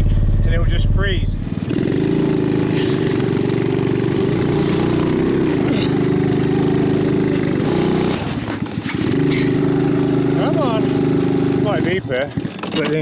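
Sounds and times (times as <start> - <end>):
small engine labouring: 0.0 - 13.0.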